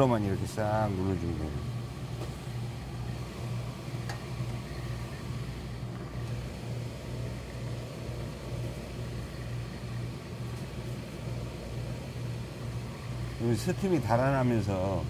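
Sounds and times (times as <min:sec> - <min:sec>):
workshop machinery humming: 0:00.0 - 0:15.0.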